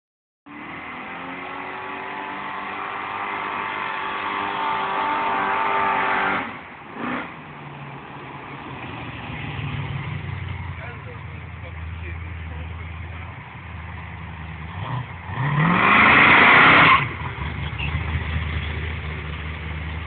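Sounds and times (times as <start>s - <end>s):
vehicle engine revving: 0.5s - 7.5s, 8.4s - 20.0s.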